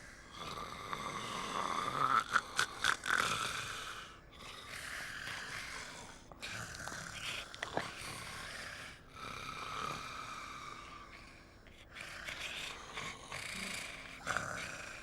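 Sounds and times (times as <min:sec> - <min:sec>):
slow breathy snores: 0:00.0 - 0:15.0.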